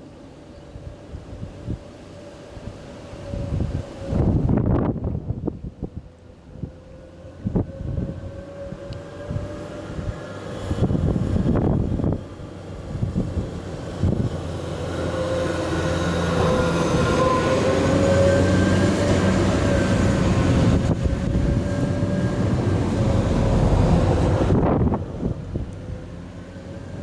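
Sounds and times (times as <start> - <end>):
jet engines whining and rushing: 0.0 - 27.0.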